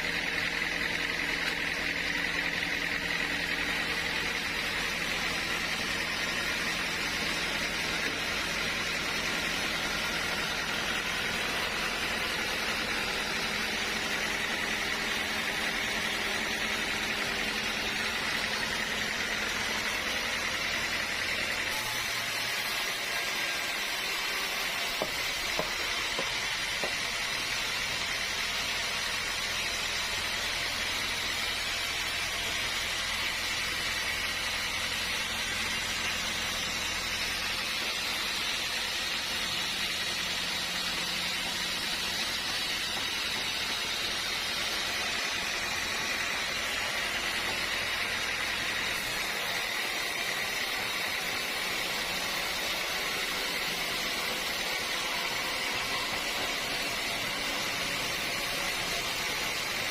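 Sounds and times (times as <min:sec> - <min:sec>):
sawmill machinery hissing: 0:00.0 - 0:59.9.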